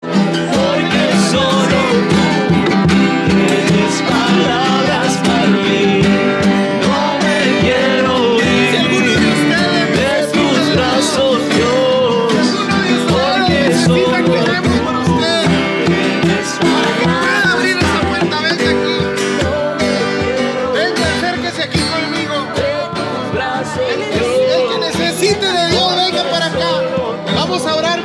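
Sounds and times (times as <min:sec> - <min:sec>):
acoustic guitar: 0:00.0 - 0:28.0
person singing: 0:00.0 - 0:28.0
steady beat: 0:00.2 - 0:28.0.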